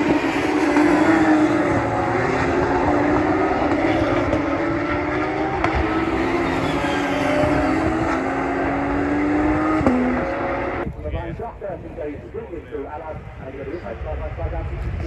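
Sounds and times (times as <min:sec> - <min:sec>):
race car engines wailing: 0:00.0 - 0:15.0.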